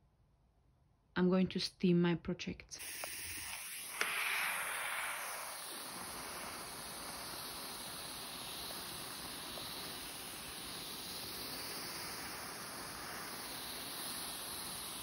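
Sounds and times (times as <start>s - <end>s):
garment steamer hissing: 2.8s - 15.0s.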